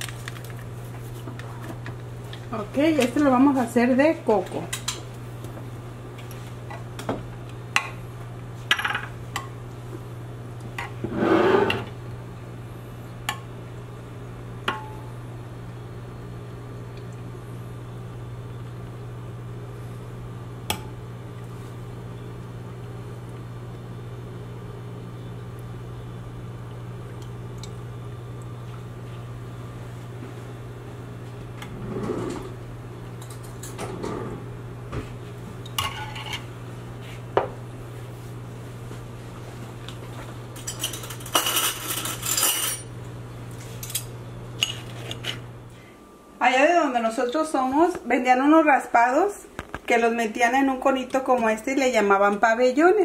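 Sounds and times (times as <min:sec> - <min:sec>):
steady low hum: 0:00.0 - 0:52.5.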